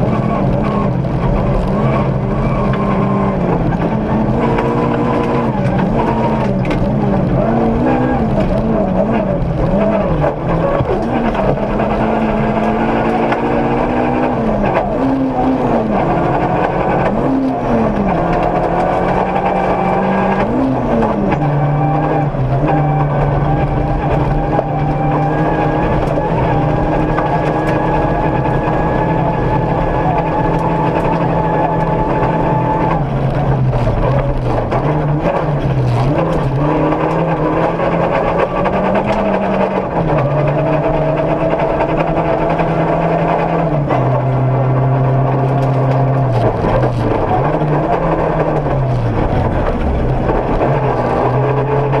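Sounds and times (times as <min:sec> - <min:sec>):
car engine from inside cabin: 0:00.0 - 0:52.0.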